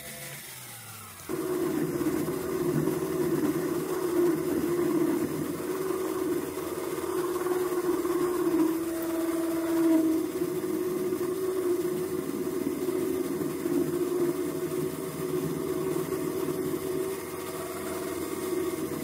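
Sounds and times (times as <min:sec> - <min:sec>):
lathe tool cutting aluminium: 0:00.1 - 0:19.0
metal lathe humming: 0:00.9 - 0:19.0.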